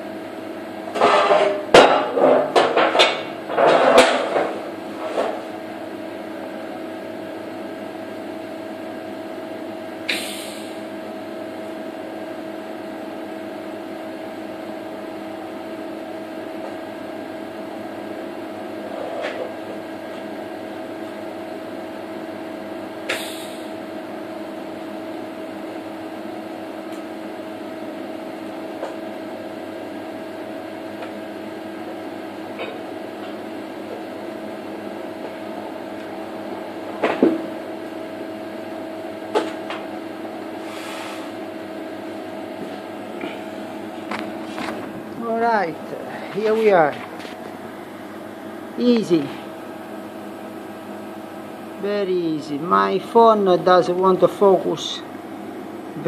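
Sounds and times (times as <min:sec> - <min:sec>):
two-tone hum of workshop equipment: 0:00.0 - 0:56.0.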